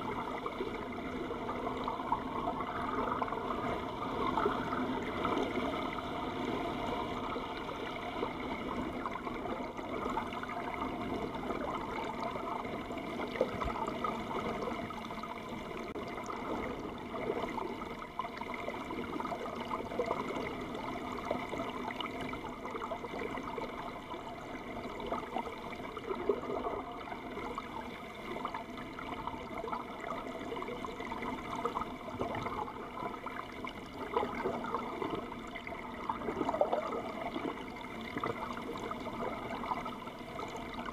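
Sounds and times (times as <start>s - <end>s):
water rushing underwater: 0.0s - 40.9s.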